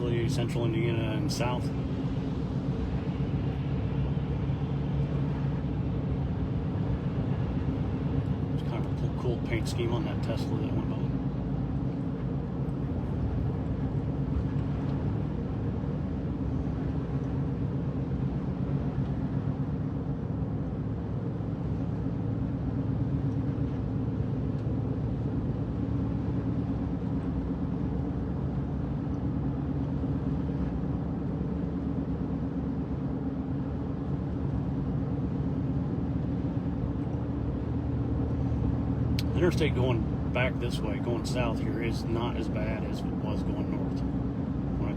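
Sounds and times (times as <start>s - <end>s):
engine and drivetrain hum: 0.0s - 44.9s.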